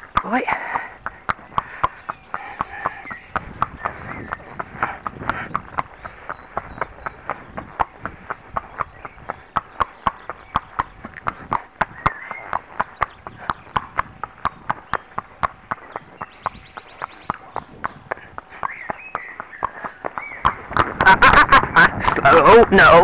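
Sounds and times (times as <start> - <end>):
horse hooves clip-clopping on tarmac: 0.0 - 23.0.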